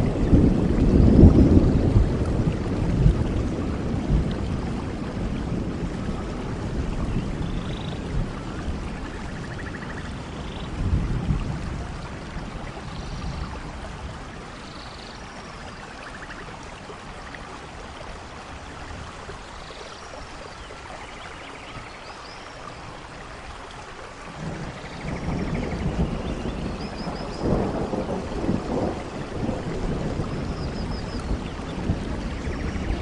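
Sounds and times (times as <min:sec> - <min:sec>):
low rumble of thunder: 0:00.0 - 0:19.8, 0:24.3 - 0:33.0
steady rain falling: 0:00.0 - 0:33.0.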